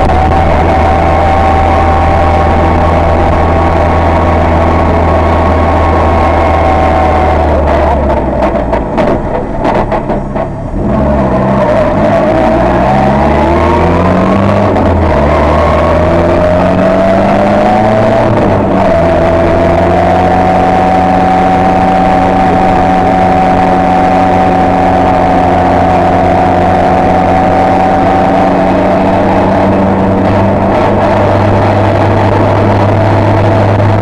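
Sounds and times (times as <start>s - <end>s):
rally car engine from inside cabin: 0.0s - 34.0s.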